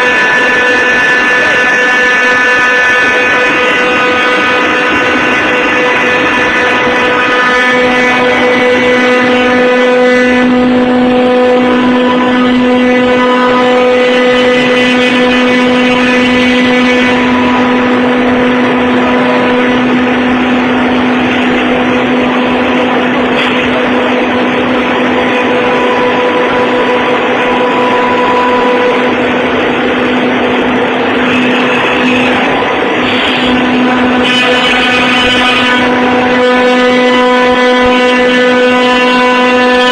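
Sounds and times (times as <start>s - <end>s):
machining noise: 0.0s - 39.9s
router spindle whining: 0.0s - 39.9s.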